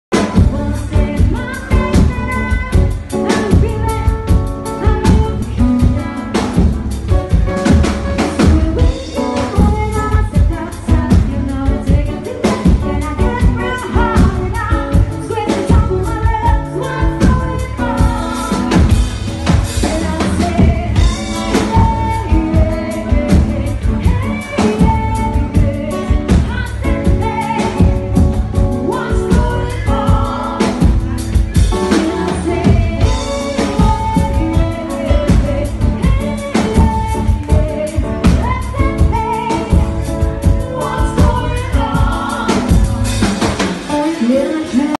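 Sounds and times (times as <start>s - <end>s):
bass: 0.0s - 44.9s
drum kit beat: 0.1s - 44.9s
pop song with singing: 0.1s - 44.9s.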